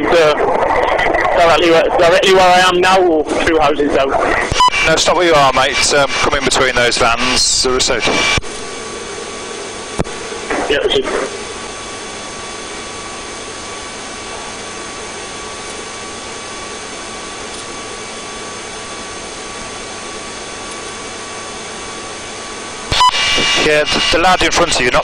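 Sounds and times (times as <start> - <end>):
faint steady whines: 0.0 - 25.0.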